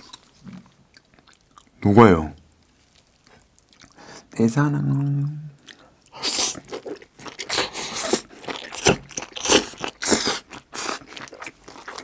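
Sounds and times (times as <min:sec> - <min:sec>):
chewing and crunching: 0:00.0 - 0:01.8, 0:02.6 - 0:04.1, 0:04.8 - 0:12.0.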